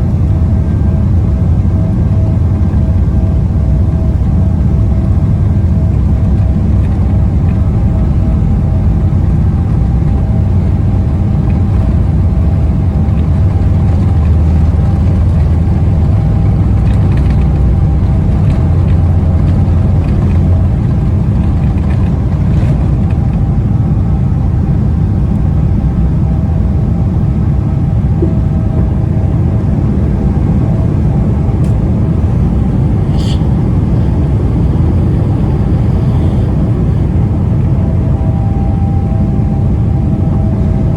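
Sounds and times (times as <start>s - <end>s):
constant cabin hum: 0.0s - 40.9s
jet engines rumbling: 0.0s - 40.9s.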